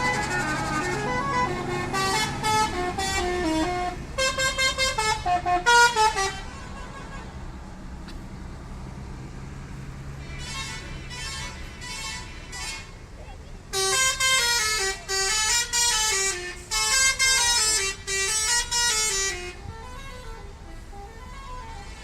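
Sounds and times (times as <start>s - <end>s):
bus musical horns: 0.0s - 8.3s, 9.8s - 22.0s
bus engines humming: 0.0s - 22.0s.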